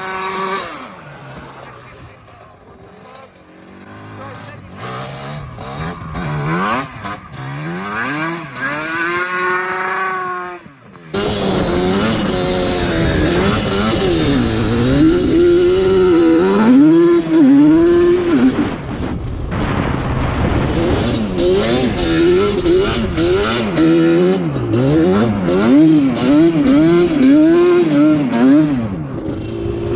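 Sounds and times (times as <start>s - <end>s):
atv engine revving: 0.0s - 29.9s.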